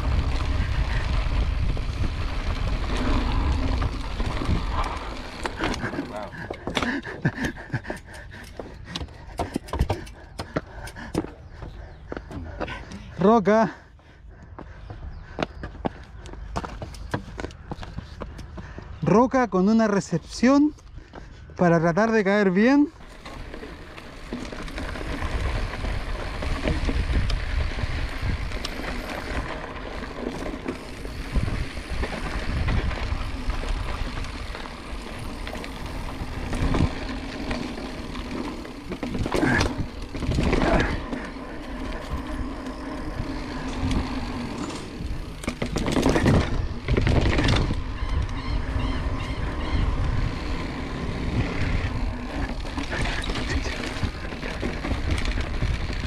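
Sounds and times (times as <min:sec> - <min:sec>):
bike tyres rattling over rough ground: 0:00.0 - 0:13.8, 0:14.7 - 0:56.0.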